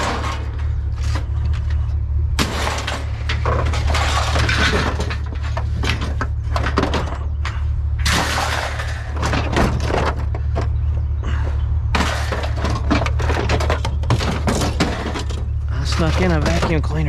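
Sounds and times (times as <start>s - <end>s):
scrap metal clattering onto pile: 0.0s - 1.6s, 2.4s - 10.8s, 11.9s - 17.0s
steady low hum: 0.0s - 17.0s.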